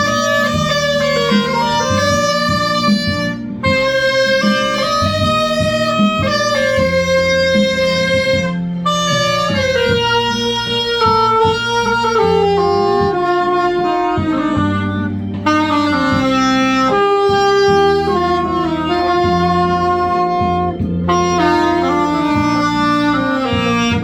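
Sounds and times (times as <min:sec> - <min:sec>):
backing accompaniment: 0:00.0 - 0:24.0
saxophone melody: 0:00.0 - 0:24.0.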